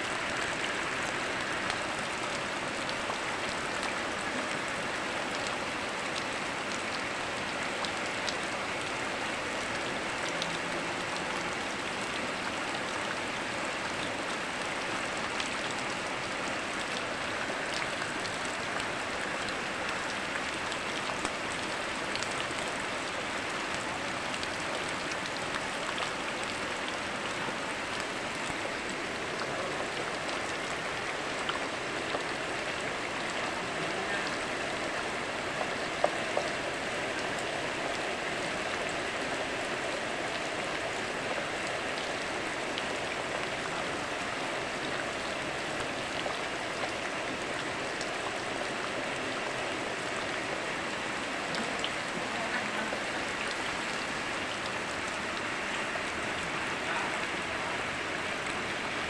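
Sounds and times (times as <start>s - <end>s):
river flowing: 0.0s - 59.0s
steady rain falling: 0.0s - 59.0s
water dripping: 0.0s - 59.0s.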